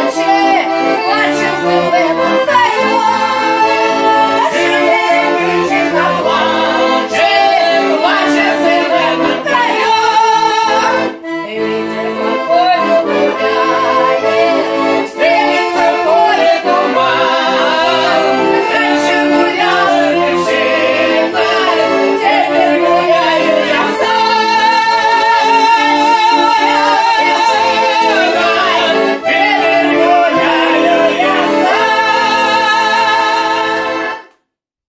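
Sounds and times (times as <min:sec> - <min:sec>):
person singing: 0:00.0 - 0:34.3
accordion playing: 0:00.0 - 0:34.4.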